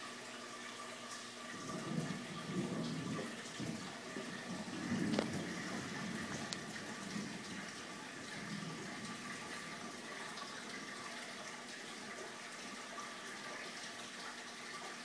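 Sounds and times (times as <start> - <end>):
aquarium water rushing: 0.0 - 15.0.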